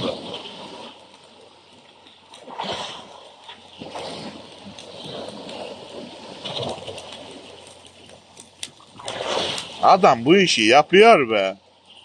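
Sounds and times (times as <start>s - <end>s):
water splashing and gurgling: 0.0s - 12.0s.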